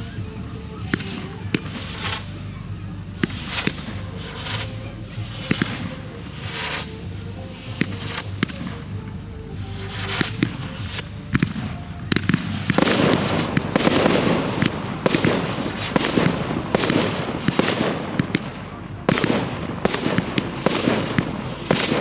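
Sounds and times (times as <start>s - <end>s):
firework crackling: 0.0s - 22.0s
firework shell bursts: 0.0s - 22.0s.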